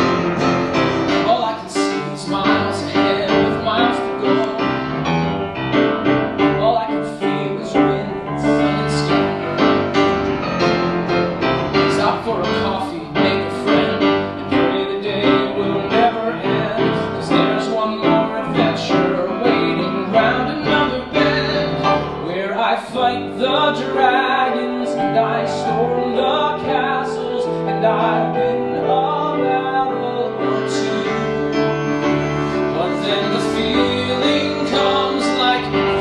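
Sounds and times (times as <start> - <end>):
piano accompaniment: 0.0 - 36.0
man singing into a microphone: 1.0 - 4.9, 6.4 - 9.9, 11.8 - 36.0.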